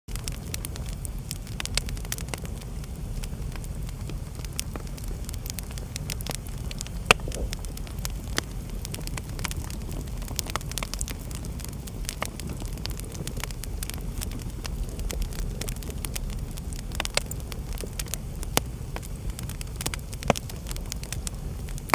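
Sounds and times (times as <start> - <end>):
fire crackling and popping: 0.1 - 21.9
low rumble: 0.1 - 21.9.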